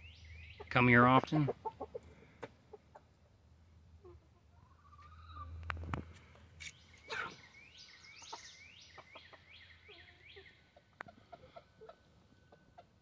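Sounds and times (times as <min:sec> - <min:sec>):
songbird chirping: 0:00.0 - 0:13.0
chickens clucking: 0:00.2 - 0:07.5, 0:08.1 - 0:13.0.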